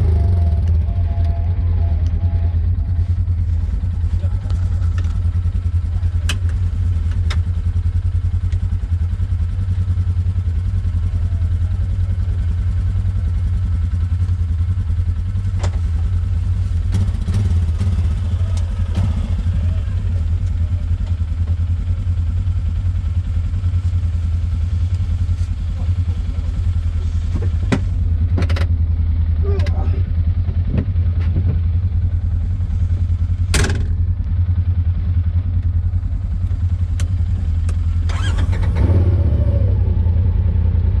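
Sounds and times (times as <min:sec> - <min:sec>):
engine droning: 0:00.0 - 0:41.0.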